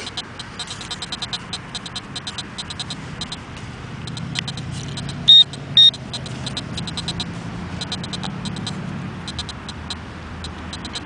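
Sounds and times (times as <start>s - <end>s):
metal detector pinpointer beeping: 0.0s - 11.0s
low hum of passing car: 1.4s - 11.0s.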